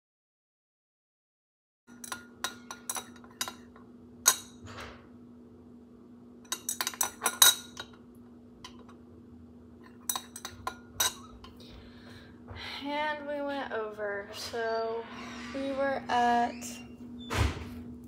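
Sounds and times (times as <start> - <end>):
faint steady hum: 1.9 - 18.0.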